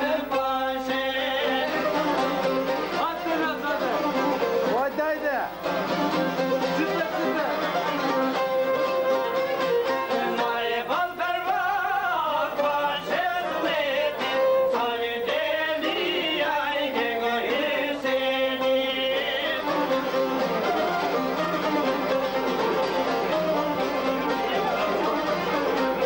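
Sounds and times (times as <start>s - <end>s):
man singing folk song: 0.0s - 8.2s, 9.9s - 26.0s
two-string lute playing: 0.0s - 11.2s, 12.7s - 26.0s.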